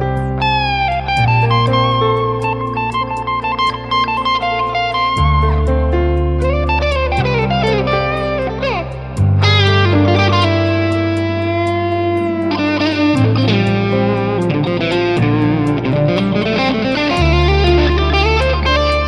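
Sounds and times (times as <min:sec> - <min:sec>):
electric guitar lead: 0:00.0 - 0:19.0
held bass notes: 0:00.0 - 0:19.0.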